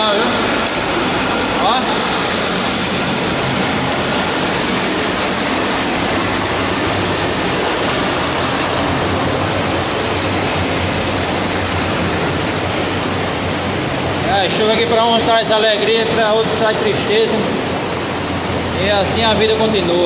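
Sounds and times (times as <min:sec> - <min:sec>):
water rushing through spillway: 0:00.0 - 0:20.0.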